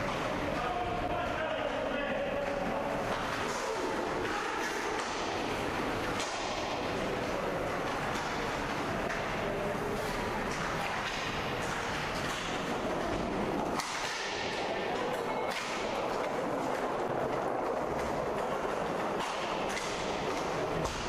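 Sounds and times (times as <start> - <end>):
sticks and puck clacking: 0.0 - 21.0.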